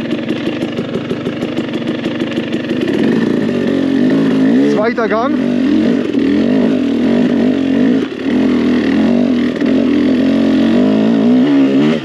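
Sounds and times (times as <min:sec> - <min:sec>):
two-stroke engine pulling under throttle: 0:00.0 - 0:12.0.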